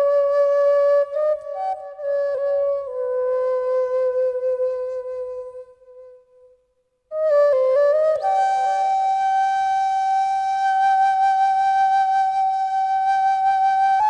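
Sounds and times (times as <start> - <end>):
solo wind instrument: 0.0 - 14.0.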